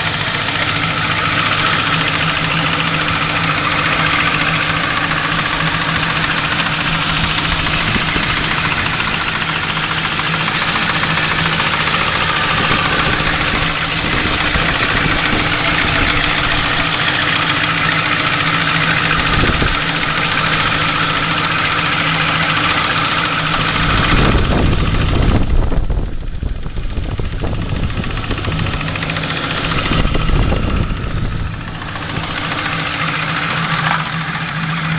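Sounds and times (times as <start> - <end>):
car engine idling with a knock: 0.0 - 34.9.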